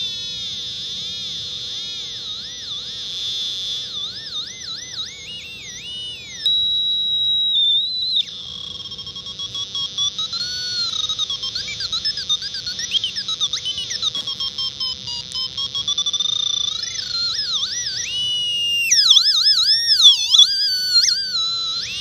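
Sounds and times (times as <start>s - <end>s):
piezo buzzer beeping and warbling: 0.0s - 22.0s.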